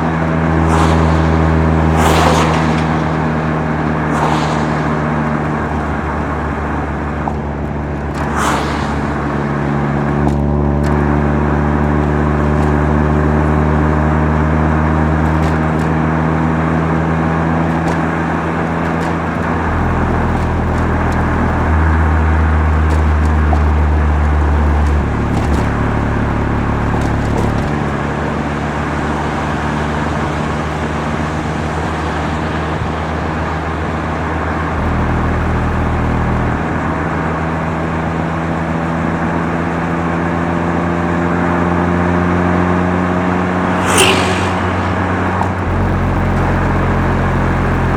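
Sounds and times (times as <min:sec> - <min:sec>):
rotary engine exhaust drone: 0:00.0 - 0:47.9.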